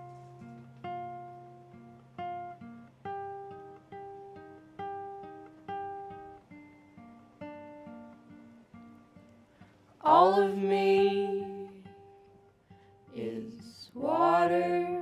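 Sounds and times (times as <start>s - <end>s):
plucked acoustic guitar melody: 0.0s - 15.0s.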